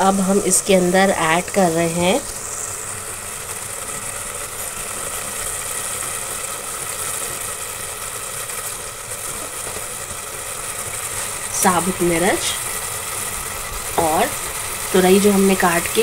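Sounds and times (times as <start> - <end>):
sauce sizzling and bubbling in pot: 0.0 - 16.0.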